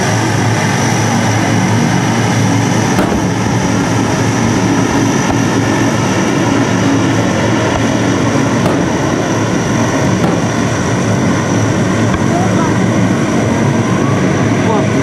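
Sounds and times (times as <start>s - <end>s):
loud engine-like roar: 0.0s - 15.0s.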